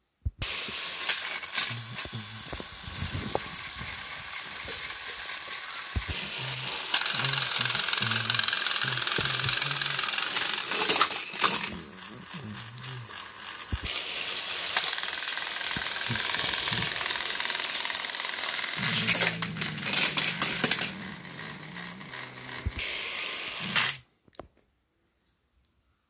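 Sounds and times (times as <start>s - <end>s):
plastic toy clicks and clatter: 0.4s - 24.0s
toy train motor whir: 0.4s - 24.1s.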